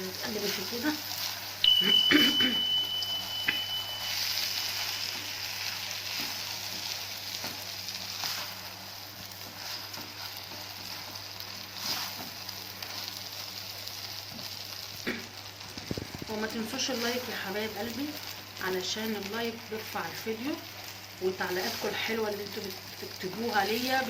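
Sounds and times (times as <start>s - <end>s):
rice sizzling in a pot: 0.0s - 24.0s.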